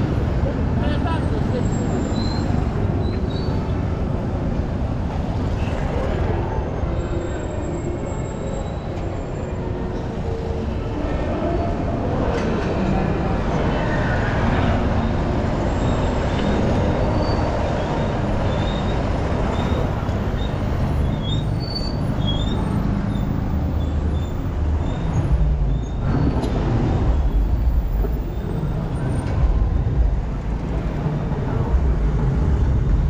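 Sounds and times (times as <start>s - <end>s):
city traffic rumble: 0.0s - 33.0s.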